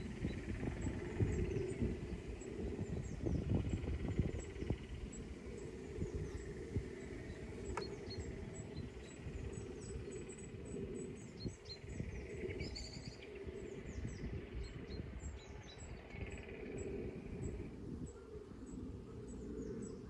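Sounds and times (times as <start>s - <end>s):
small birds chirping: 0.0s - 20.0s
wind buffeting microphone: 0.0s - 20.0s.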